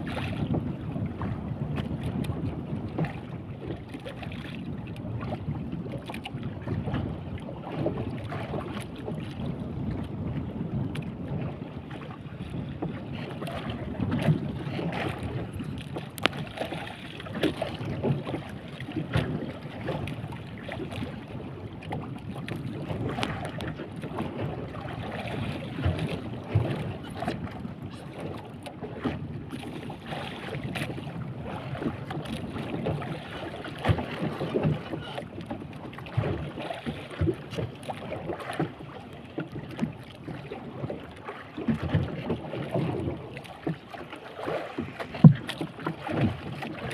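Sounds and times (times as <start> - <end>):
wind buffeting microphone: 0.0 - 41.0
sea water slapping against a boat hull: 0.0 - 46.9.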